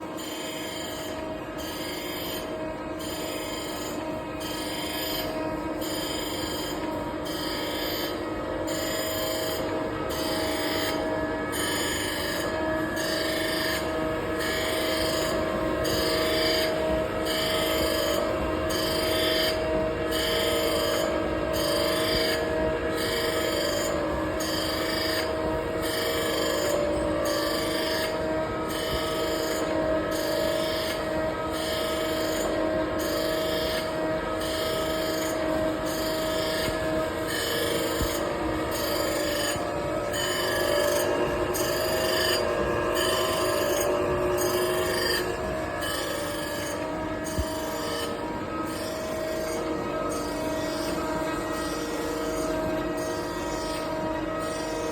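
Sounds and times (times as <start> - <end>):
motor hum: 8.7 - 54.9.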